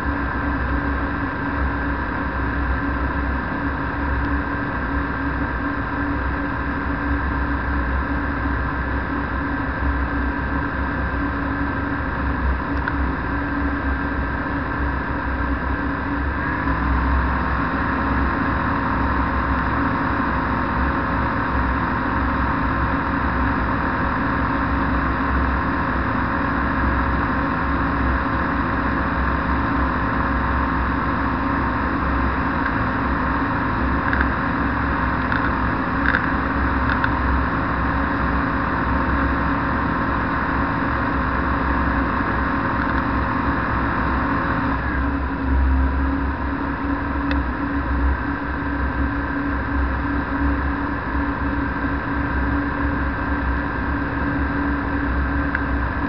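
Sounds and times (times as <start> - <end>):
aircraft engine running: 0.0 - 56.0.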